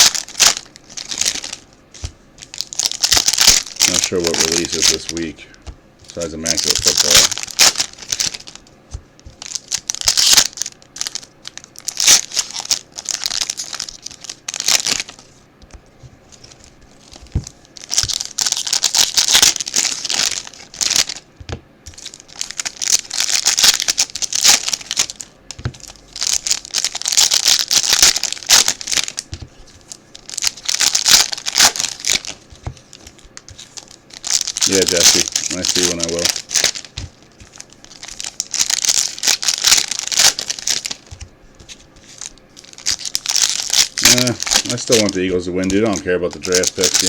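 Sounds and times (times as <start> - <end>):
wrappers tearing and crinkling: 0.0 - 5.4, 6.0 - 8.7, 9.3 - 15.3, 16.3 - 21.3, 21.9 - 47.0.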